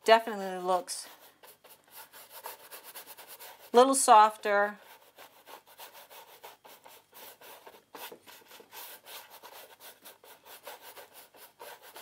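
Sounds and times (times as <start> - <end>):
paintbrush rubbing on canvas: 0.7 - 3.9, 4.8 - 12.0.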